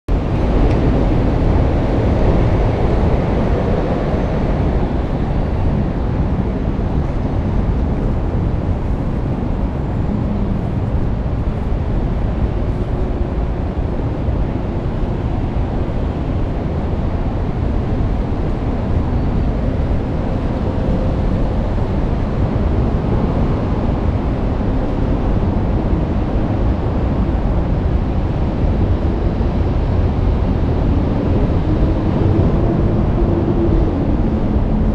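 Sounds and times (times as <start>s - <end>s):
traffic on a busy road: 0.1s - 34.9s
wind on microphone: 0.1s - 34.9s.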